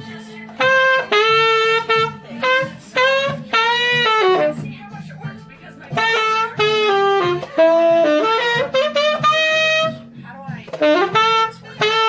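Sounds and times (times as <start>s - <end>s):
jazz-funk backing track: 0.0s - 12.0s
tenor saxophone with vibrato: 0.0s - 12.0s.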